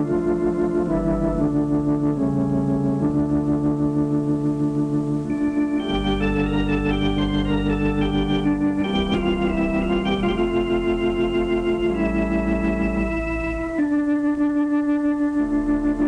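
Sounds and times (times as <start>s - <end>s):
organ chords with tremolo: 0.0s - 16.0s.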